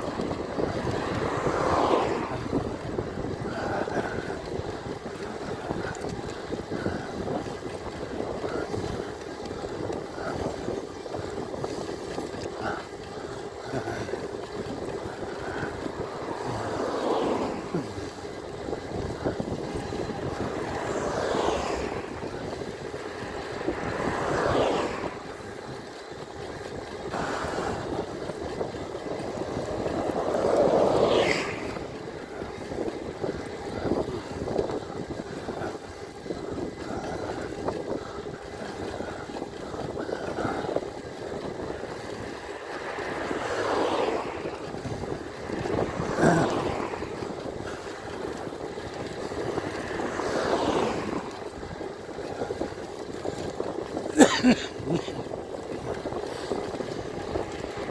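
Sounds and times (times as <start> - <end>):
cars passing: 0.0 - 57.9
wind noise on microphone: 0.0 - 57.9.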